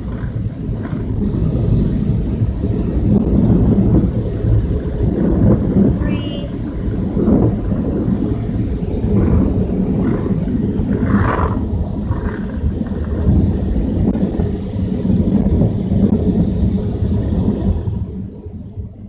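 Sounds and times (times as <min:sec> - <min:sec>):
dryer blowers roaring: 0:00.0 - 0:18.2.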